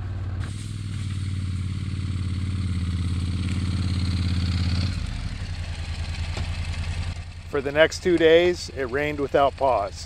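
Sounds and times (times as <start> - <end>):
motorcycle engine running at low speed: 0.0 - 10.0.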